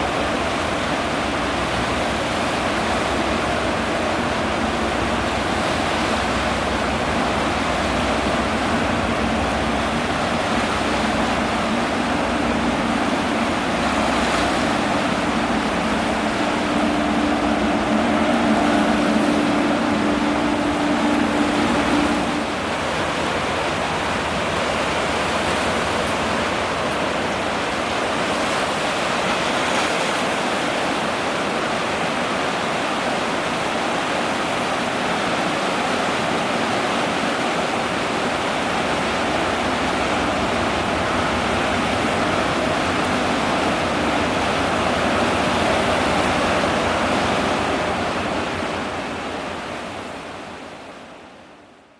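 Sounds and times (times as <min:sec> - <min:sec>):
ship engine drone: 0:00.0 - 0:30.2, 0:36.7 - 0:51.9
waves at the shore: 0:00.0 - 0:51.9
wind: 0:00.0 - 0:51.9.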